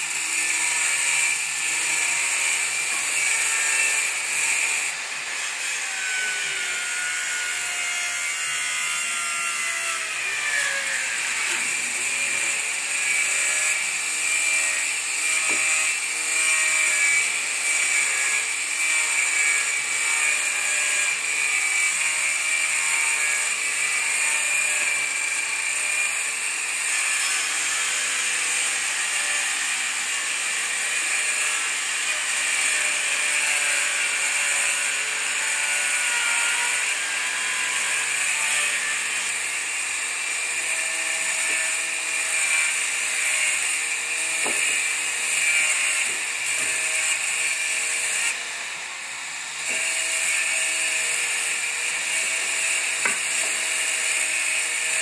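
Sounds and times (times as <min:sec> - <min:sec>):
power tool high whine: 0:00.0 - 0:55.0.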